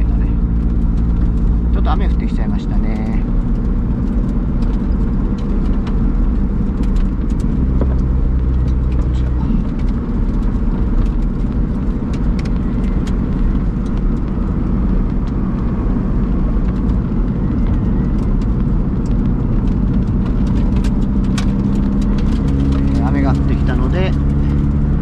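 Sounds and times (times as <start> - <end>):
car engine running: 0.0 - 25.0
road noise: 0.0 - 25.0.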